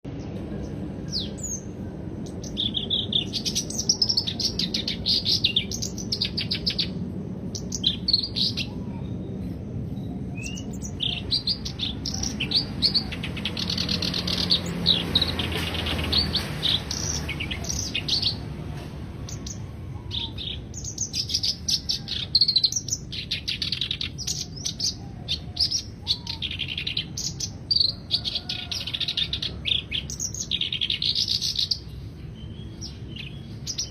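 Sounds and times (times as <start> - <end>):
warbler chattering song: 0.1 - 33.9.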